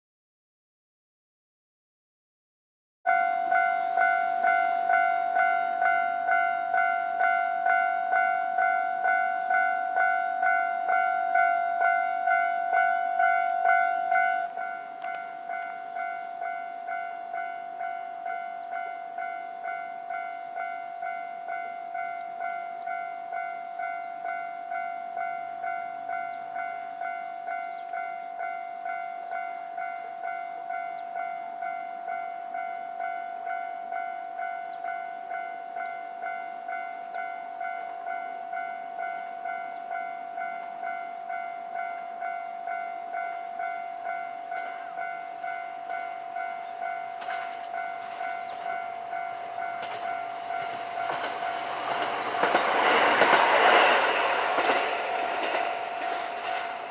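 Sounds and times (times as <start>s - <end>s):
level-crossing warning bell ringing: 3.1s - 56.9s.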